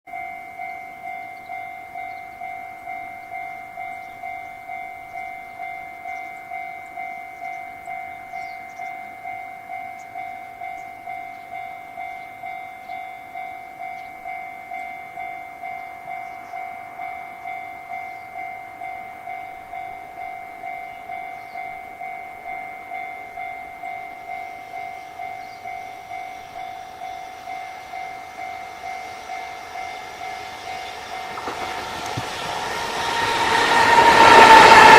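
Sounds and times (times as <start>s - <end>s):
approaching train noise: 0.1s - 34.9s
level-crossing warning bell: 0.1s - 34.9s.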